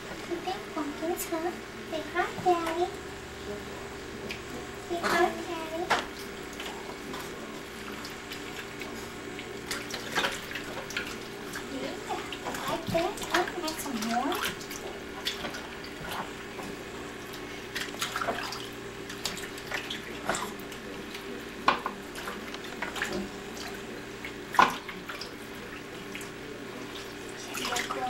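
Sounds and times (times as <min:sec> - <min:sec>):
bathwater splashing: 0:00.0 - 0:28.0.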